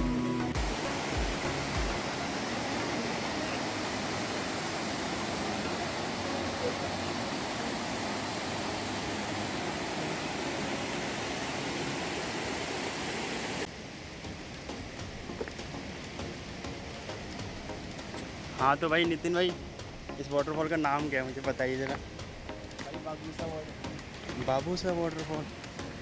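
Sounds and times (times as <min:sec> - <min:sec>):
stream rushing over boulders: 0:00.5 - 0:26.0.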